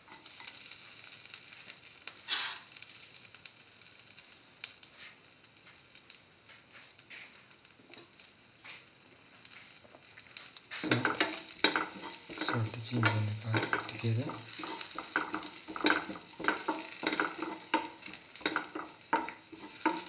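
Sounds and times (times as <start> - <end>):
aromatics sizzling in hot oil: 0.0 - 20.0
oil popping and crackling: 0.0 - 20.0.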